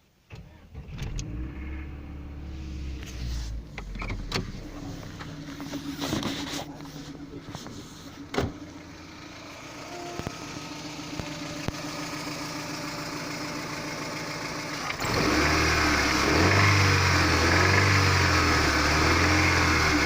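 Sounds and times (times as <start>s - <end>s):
car engine running: 0.4s - 20.0s.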